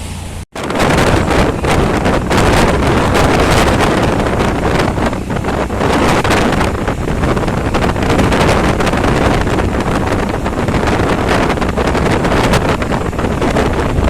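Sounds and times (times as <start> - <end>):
moving vehicle road noise: 0.0 - 14.0
wind buffeting microphone: 0.6 - 14.0.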